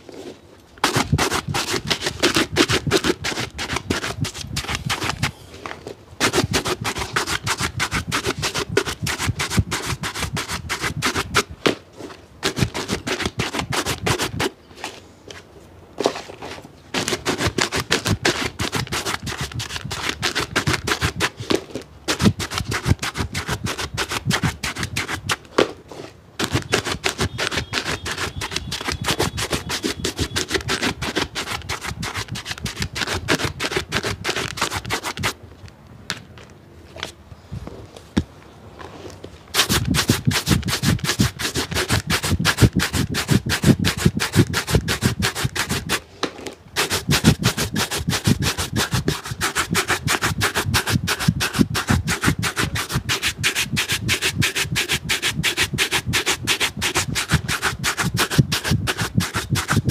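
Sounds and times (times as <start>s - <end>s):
brush scrubbing a shoe: 0.8s - 5.4s, 6.2s - 14.6s, 17.0s - 35.4s, 39.5s - 46.0s, 46.8s - 59.9s.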